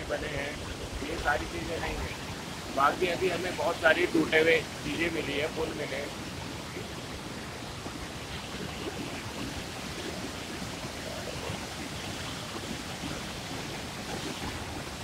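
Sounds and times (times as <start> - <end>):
water rushing over boulders: 0.0 - 15.0.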